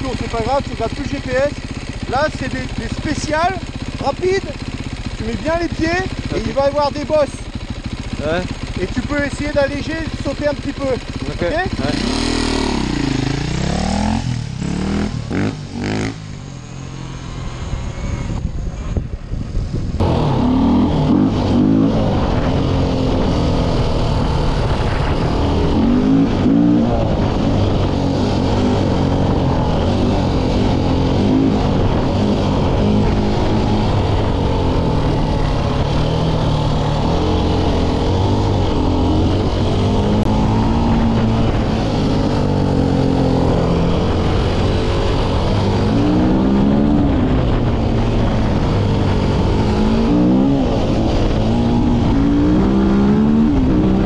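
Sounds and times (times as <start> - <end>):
motorcycle engine revving off-road: 0.0 - 19.0, 20.0 - 54.0.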